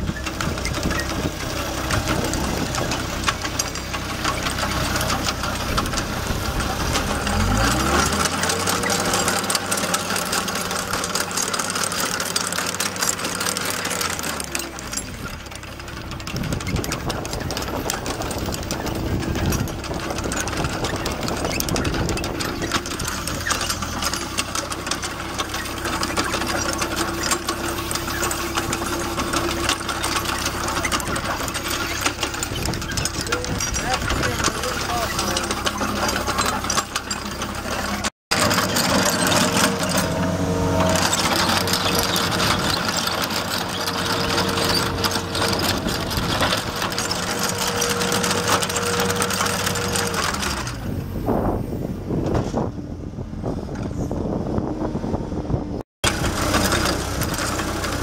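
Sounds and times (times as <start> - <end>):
skid steer engine revving: 0.0 - 58.0
trencher mechanical clatter: 0.0 - 58.0.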